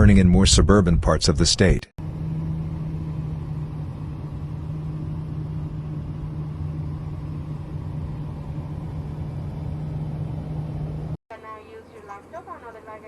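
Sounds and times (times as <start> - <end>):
vehicle rumble with low hum: 1.6 - 13.0.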